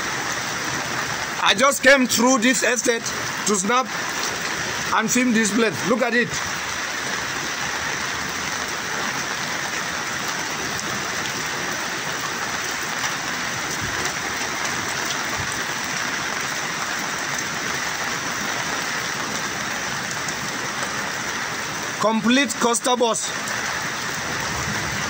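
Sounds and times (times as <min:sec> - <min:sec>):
fast-flowing floodwater: 0:00.0 - 0:25.0
heavy rain pouring: 0:00.0 - 0:25.0.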